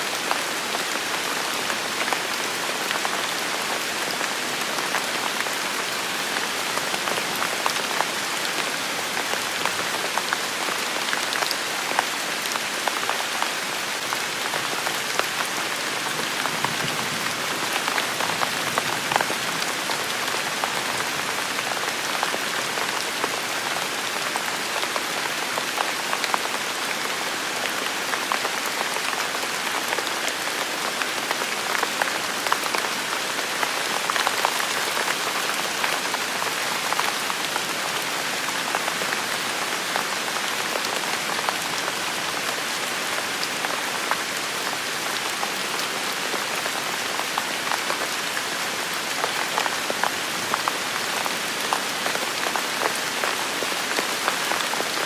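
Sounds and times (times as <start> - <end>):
rain pattering: 0.1 - 55.0.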